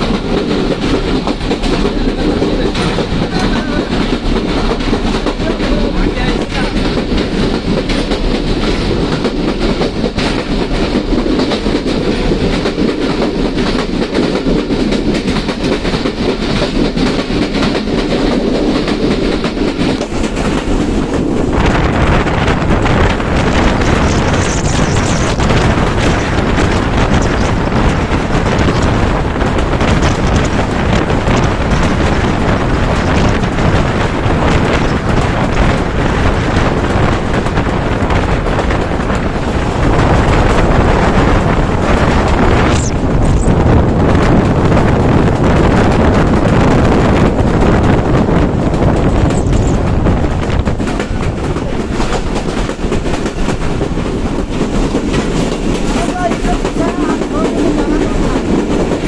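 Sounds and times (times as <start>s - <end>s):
rushing air: 0.0s - 59.0s
train wheels on rails: 0.0s - 59.0s.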